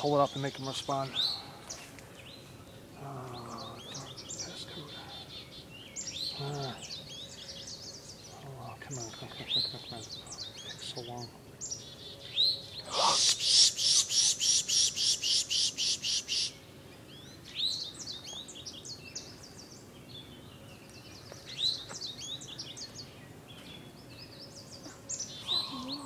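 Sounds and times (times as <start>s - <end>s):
birds calling harsh rapid notes: 0.0s - 26.0s.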